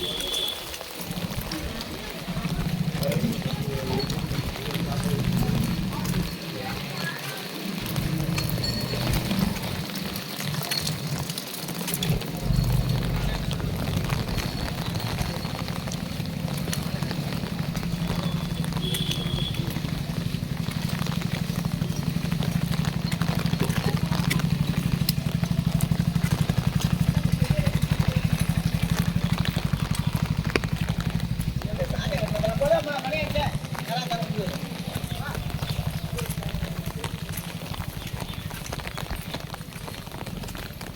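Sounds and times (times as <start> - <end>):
heavy rain falling: 0.0 - 40.9
engine running with low throb: 7.8 - 40.9.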